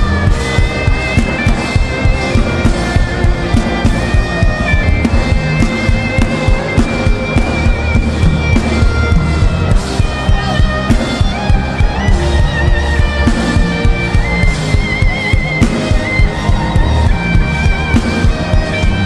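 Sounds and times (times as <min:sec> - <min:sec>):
instrumental worship music: 0:00.0 - 0:19.0.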